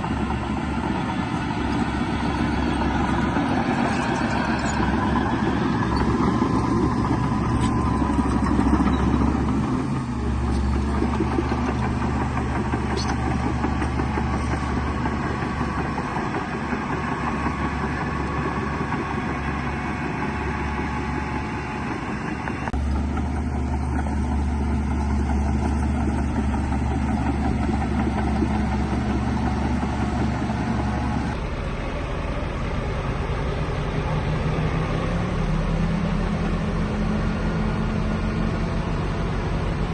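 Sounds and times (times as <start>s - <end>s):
heavy diesel machinery engines: 0.0s - 39.9s.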